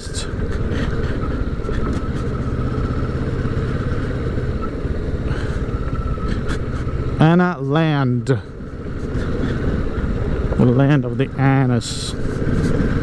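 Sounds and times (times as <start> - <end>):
motorcycle engine hum: 0.0 - 13.0
wind and road noise: 0.0 - 13.0.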